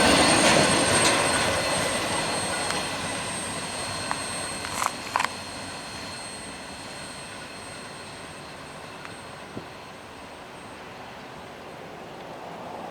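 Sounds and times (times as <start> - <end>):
freight train rumbling: 0.0 - 12.9.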